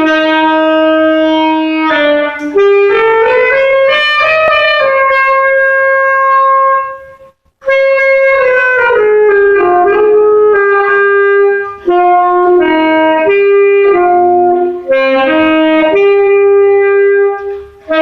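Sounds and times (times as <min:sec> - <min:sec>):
solo saxophone melody: 0:00.0 - 0:18.0.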